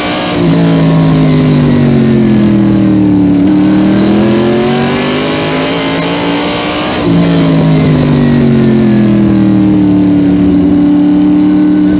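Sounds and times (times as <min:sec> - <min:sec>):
race car engine straining: 0:00.0 - 0:11.9.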